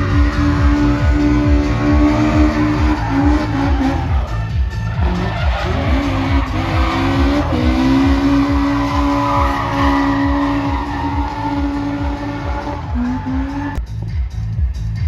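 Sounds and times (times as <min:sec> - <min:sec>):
car engine revving: 0:00.0 - 0:13.8
tyres skidding: 0:00.0 - 0:13.8
music with a steady beat: 0:00.0 - 0:15.0.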